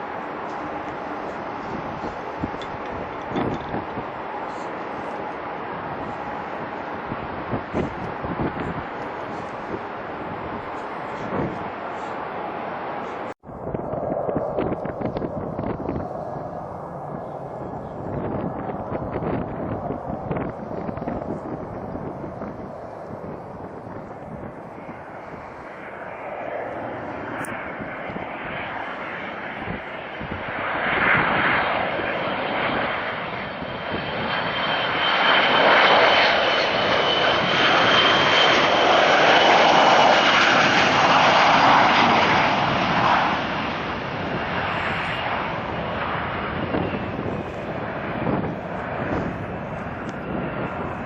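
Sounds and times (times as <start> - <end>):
jet engines passing: 0.0 - 51.0.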